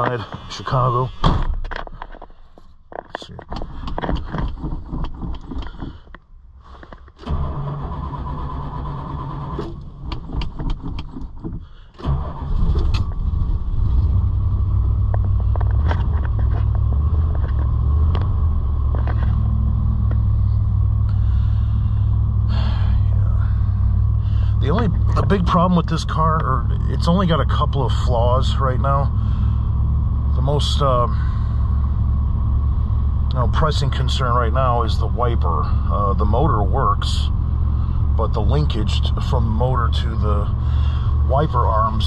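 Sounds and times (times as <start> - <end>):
car engine cranking and idling: 0.0 - 42.0.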